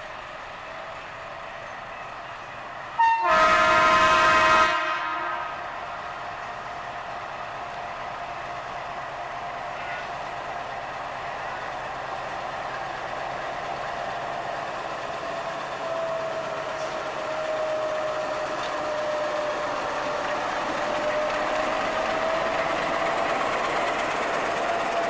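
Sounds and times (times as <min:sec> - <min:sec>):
diesel locomotive passing: 0:00.0 - 0:25.0.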